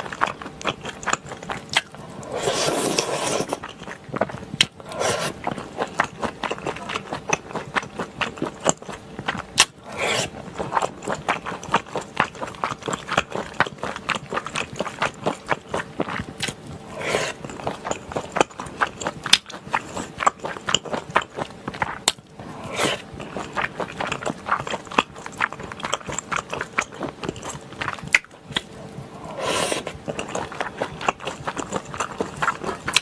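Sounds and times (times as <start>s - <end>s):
close chewing and mouth sounds: 0.0s - 33.0s.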